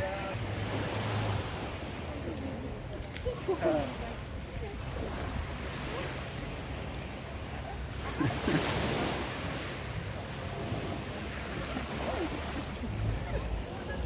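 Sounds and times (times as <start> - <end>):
boat engines rumbling: 0.0 - 14.0
surf washing on shore: 0.0 - 14.0.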